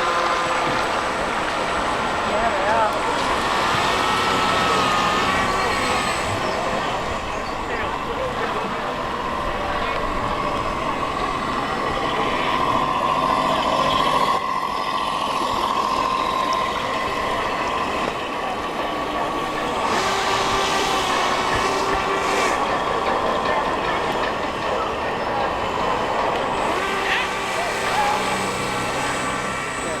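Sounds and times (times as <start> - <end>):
model boat motors whining: 0.0 - 30.0.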